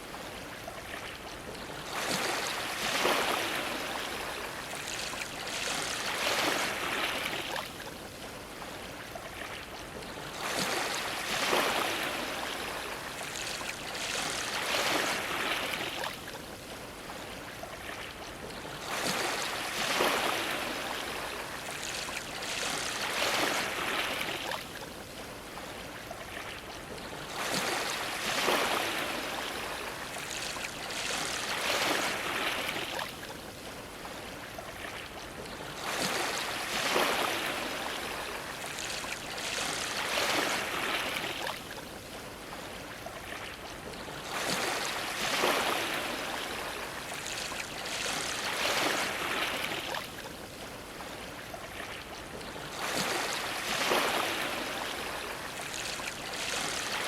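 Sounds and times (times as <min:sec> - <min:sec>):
waves washing against dock: 0:00.0 - 0:57.0.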